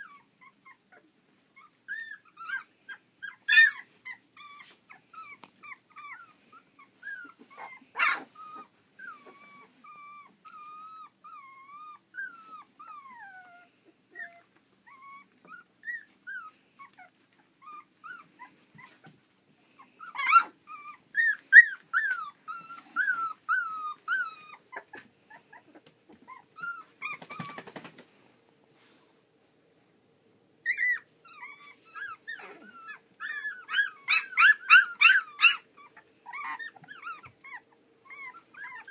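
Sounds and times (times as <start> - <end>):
puppies yipping: 0.0 - 28.1, 30.6 - 38.9
puppies whimpering and squeaking: 0.0 - 28.2, 30.6 - 38.9.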